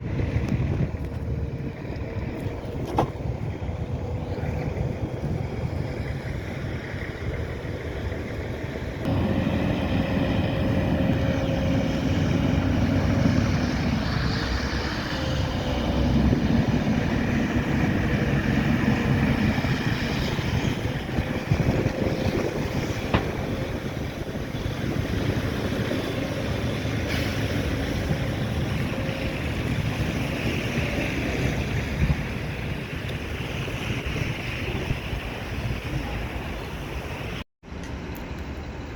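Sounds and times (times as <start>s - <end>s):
wind buffeting microphone: 0.0s - 37.4s
vehicle rumble: 0.0s - 38.9s.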